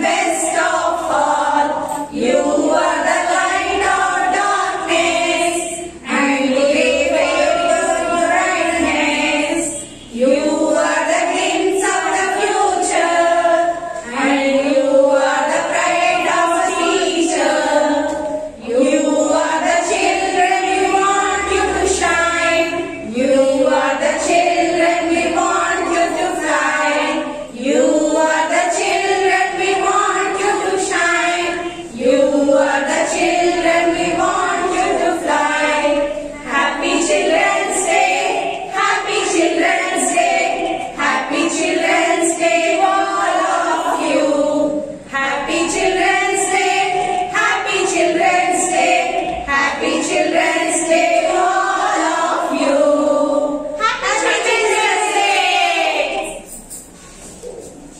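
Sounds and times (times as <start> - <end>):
women singing in unison: 0.0 - 57.0.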